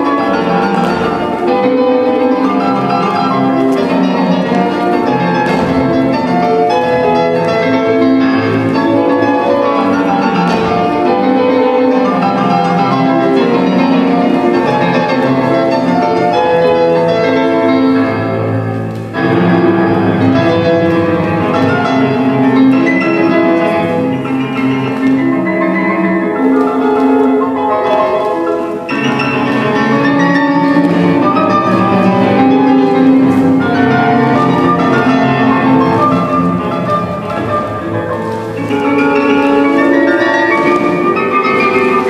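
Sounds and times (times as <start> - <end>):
classical piano music: 0.0 - 42.0.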